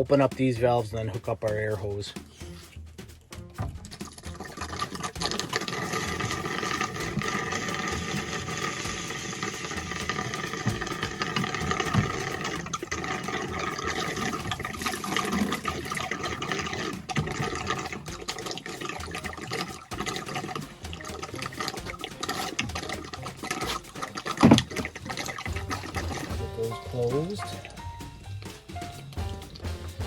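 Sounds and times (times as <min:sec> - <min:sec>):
water running: 0:00.0 - 0:30.0.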